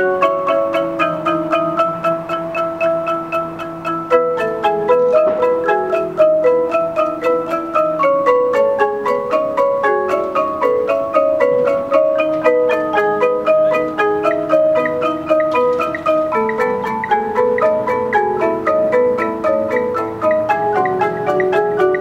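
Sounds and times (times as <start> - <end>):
marimbas and vibraphones playing: 0.0 - 22.0.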